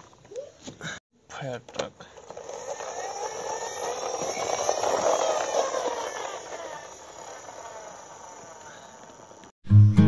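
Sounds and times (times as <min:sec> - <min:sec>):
toy wheels rolling on concrete: 0:01.4 - 0:09.6.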